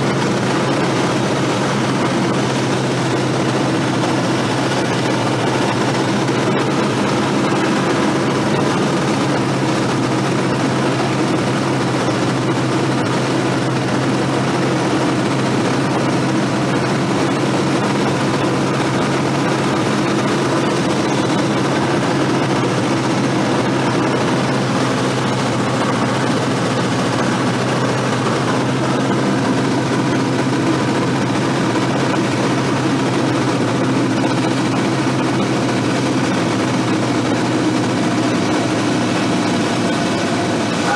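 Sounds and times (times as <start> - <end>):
airplane engine and propeller drone: 0.0 - 40.9.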